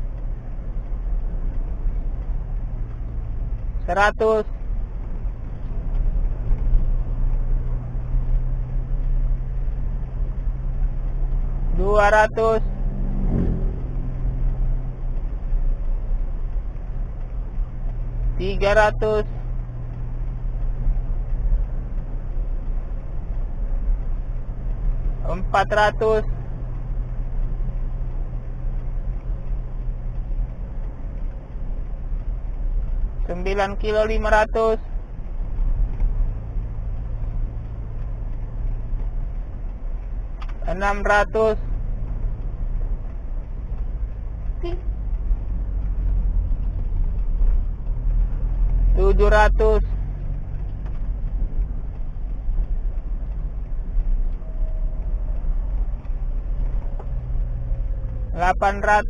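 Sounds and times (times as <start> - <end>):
car engine hum: 0.0 - 59.0
road noise rumble: 0.0 - 59.0.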